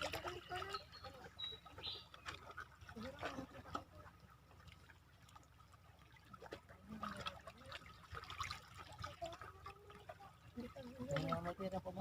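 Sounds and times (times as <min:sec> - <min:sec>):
water lapping at shore: 0:00.0 - 0:12.0.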